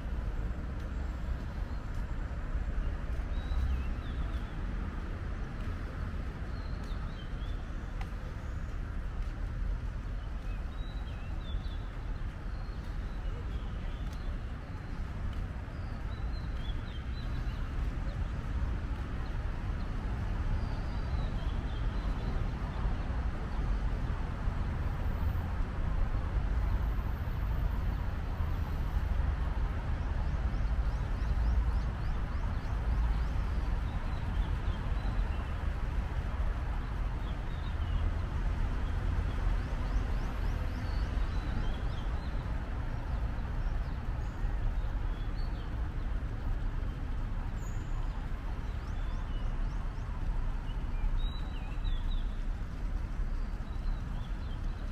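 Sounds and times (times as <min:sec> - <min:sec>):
distant traffic hum: 0:00.0 - 0:54.9.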